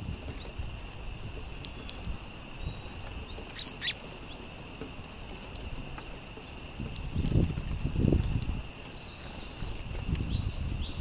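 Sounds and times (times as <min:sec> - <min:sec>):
birds pecking on wood: 0:00.0 - 0:11.0
sparrows chirping: 0:00.0 - 0:11.0.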